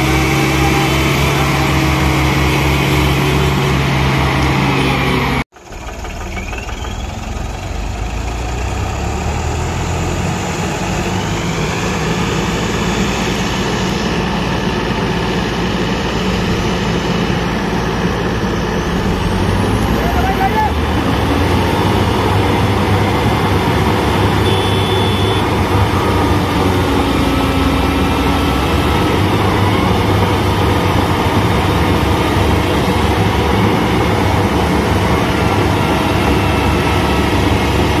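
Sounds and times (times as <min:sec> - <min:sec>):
heavy farm machine engines running: 0:00.0 - 0:38.0.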